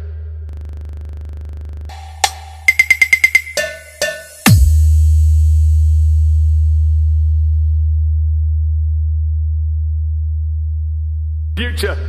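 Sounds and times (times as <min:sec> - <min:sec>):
electronic sub-bass tone: 0:00.0 - 0:03.1, 0:04.5 - 0:11.6.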